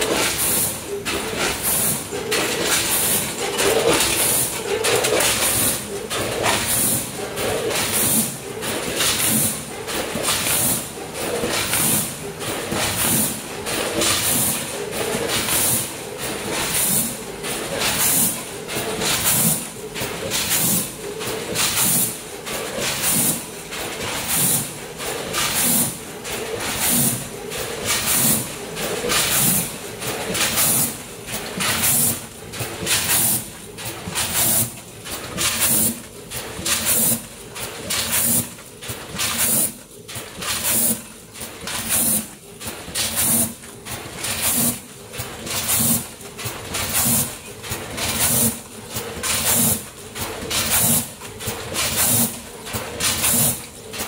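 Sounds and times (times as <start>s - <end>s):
packing machine running: 0.0s - 54.0s.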